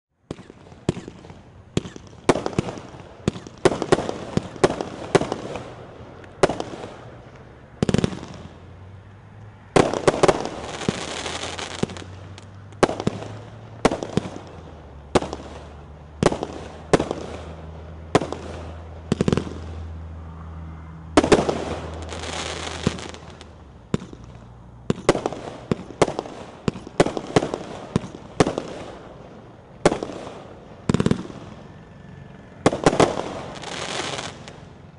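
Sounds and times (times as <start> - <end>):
firework launch and burst bangs: 0.2 - 7.1, 7.8 - 8.6, 9.8 - 19.8, 21.2 - 31.6, 32.6 - 34.7.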